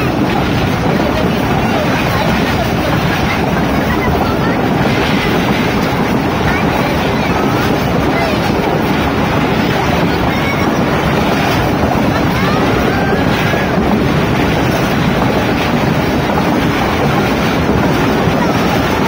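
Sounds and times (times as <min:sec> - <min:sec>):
passenger train rumbling: 0:00.0 - 0:19.0
wind buffeting microphone: 0:00.0 - 0:19.0.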